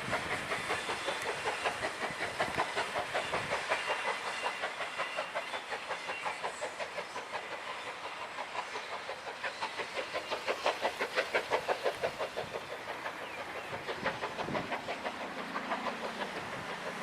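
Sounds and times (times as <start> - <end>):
train clattering past: 0.0 - 17.0.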